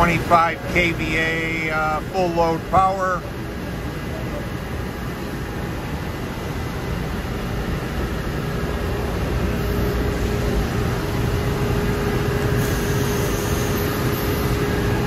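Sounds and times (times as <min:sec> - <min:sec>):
industrial machinery hum: 0:00.0 - 0:15.0.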